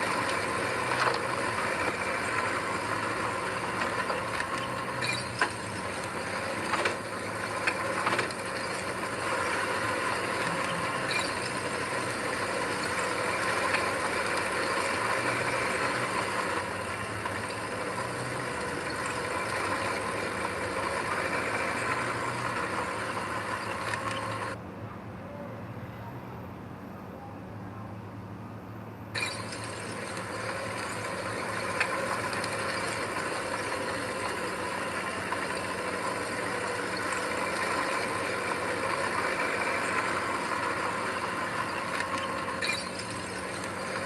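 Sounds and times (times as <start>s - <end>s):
diesel engine running: 0.0s - 24.6s, 29.0s - 44.0s.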